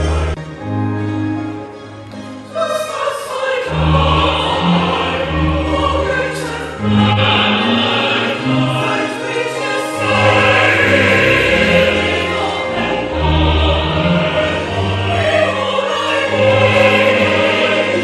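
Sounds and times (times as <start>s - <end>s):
choir singing a hymn: 0.0s - 0.7s, 2.5s - 18.0s.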